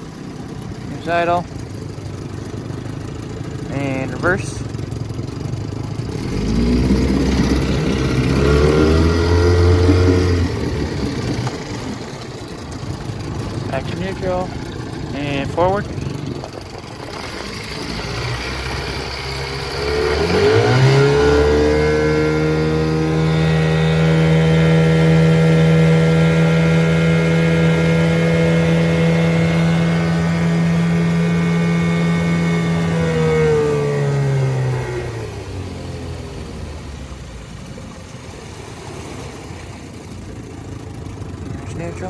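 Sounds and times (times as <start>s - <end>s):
outboard motor running: 0.0s - 42.0s.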